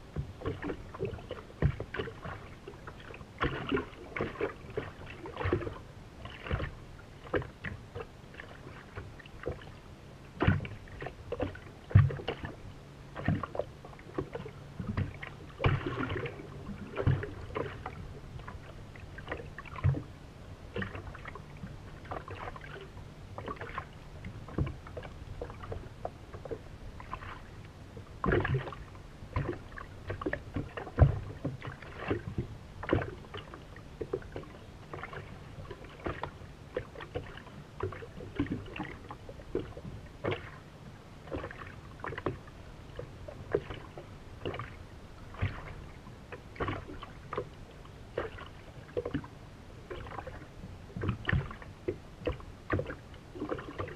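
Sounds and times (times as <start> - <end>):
low steady hum: 0.0 - 53.9
water slapping against hull: 0.0 - 53.9.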